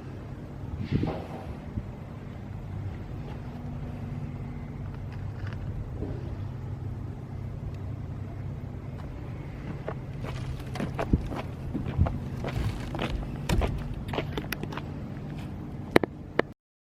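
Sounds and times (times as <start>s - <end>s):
engine running steadily: 0.0s - 16.5s.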